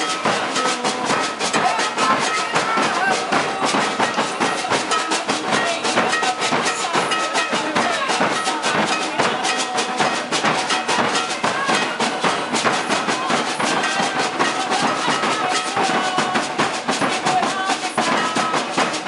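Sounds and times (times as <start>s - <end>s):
drums and shakers: 0.0s - 19.0s
voices singing: 0.0s - 19.0s.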